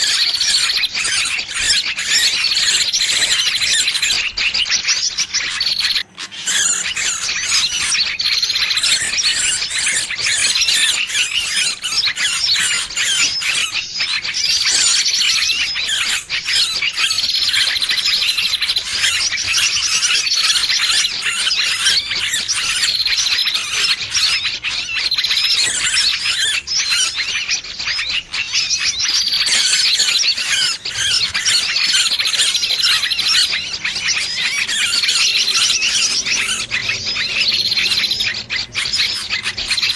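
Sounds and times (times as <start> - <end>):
bird distress calls squealing: 0.0 - 39.9.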